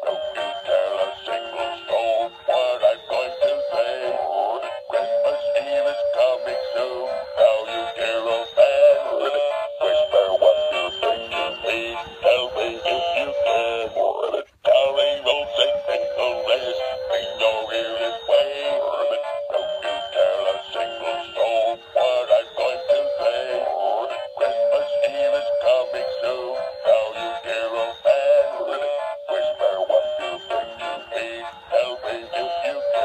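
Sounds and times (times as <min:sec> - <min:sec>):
jingly backing music: 0:00.0 - 0:33.0
toy electronic singing voice: 0:00.0 - 0:33.0.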